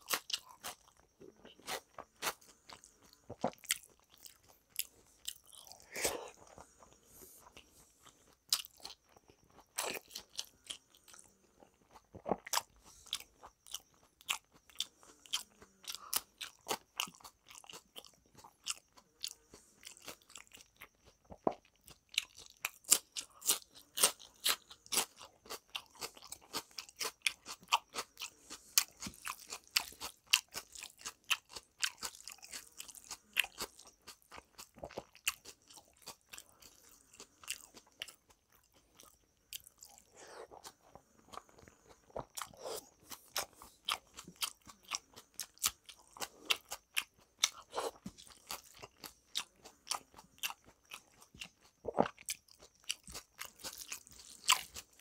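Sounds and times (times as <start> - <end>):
crisp wet crunches of chewing: 0.0 - 55.0.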